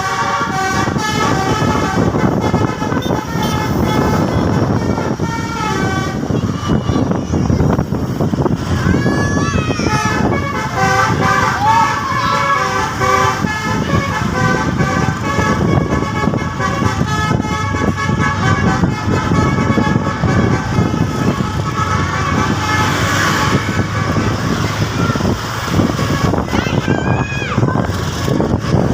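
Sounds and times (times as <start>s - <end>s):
multi-tone musical bus horn: 0.0s - 28.9s
road and engine rumble: 0.0s - 28.9s.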